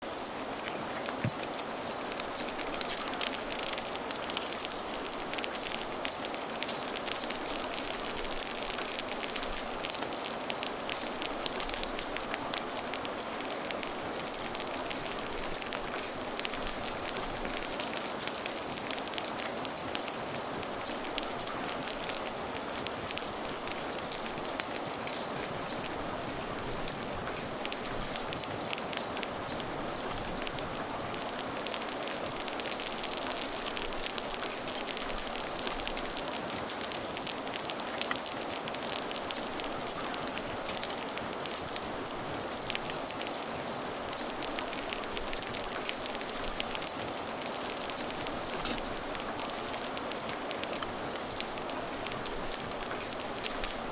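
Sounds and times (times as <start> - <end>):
crackling fire: 0.0 - 53.9
rain falling: 0.0 - 53.9.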